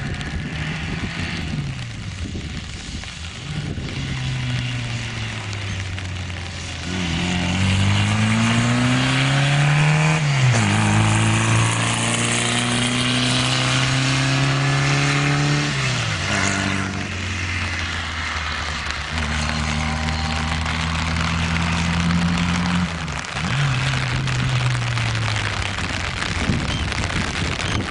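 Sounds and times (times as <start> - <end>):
car engine accelerating hard: 3.5 - 26.3.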